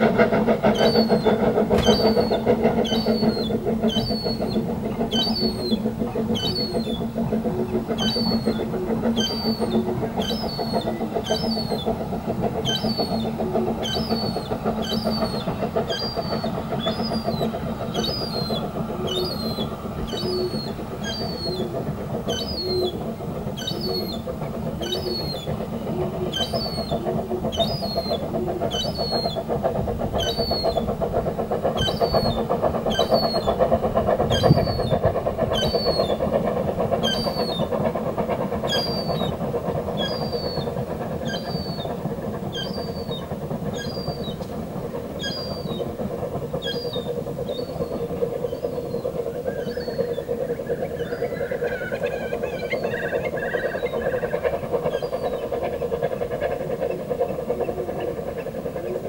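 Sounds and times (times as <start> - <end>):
steam train rumbling: 0.0 - 59.0.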